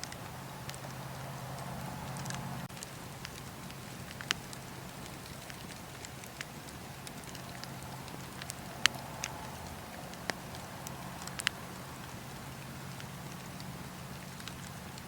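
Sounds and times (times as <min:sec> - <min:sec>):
fire crackling and popping: 0:00.0 - 0:15.0
fire rumbling and hissing: 0:00.0 - 0:15.0.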